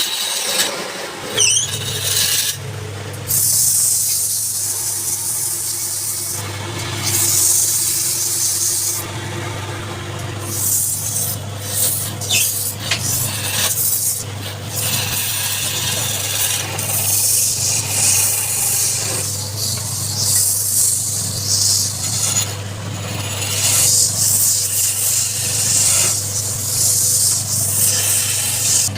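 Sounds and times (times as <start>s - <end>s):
tool rasping on spinning wood: 0.0s - 28.9s
wood lathe motor hum: 0.0s - 28.9s.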